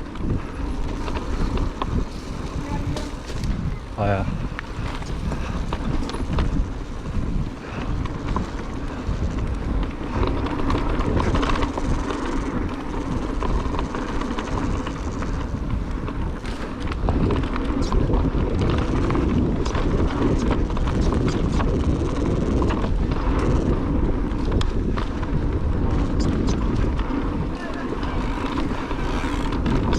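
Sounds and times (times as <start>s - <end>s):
bike knocks and clicks: 0.0s - 3.9s, 4.5s - 29.9s
tyres rumbling over dirt: 0.0s - 29.9s
wind buffeting microphone: 0.0s - 29.9s.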